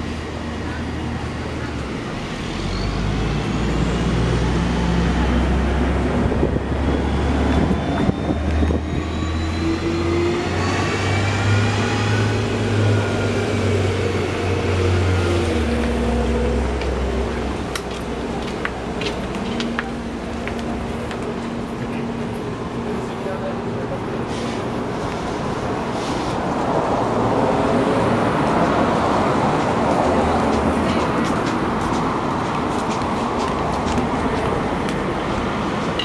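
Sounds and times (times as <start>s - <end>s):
vehicles passing close by: 0.0s - 36.0s.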